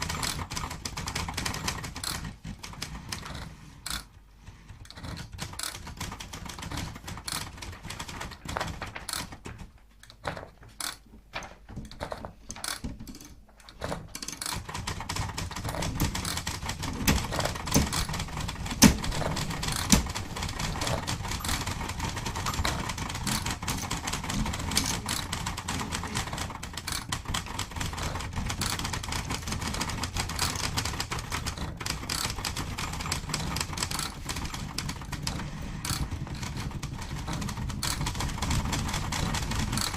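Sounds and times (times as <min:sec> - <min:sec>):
typewriter keystrokes: 0:00.0 - 0:39.9.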